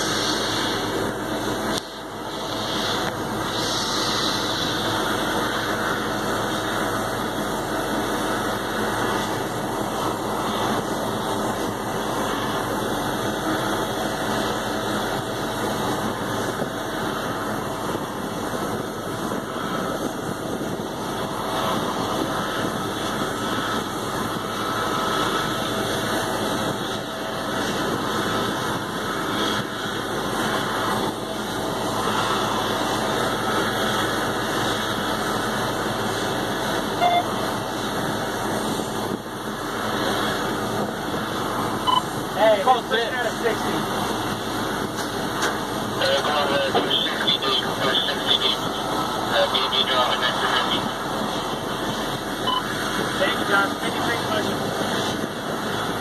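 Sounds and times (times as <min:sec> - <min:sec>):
aircraft tug engine noise: 0:00.0 - 0:56.0
faint steady whine: 0:00.0 - 0:56.0.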